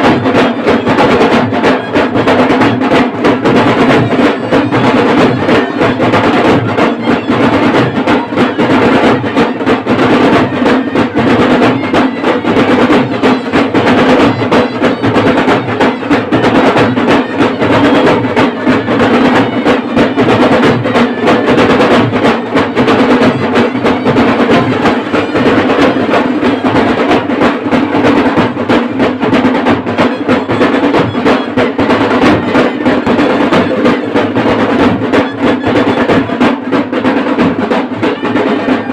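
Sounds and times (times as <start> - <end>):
drum band playing fast rhythm: 0.0 - 38.9.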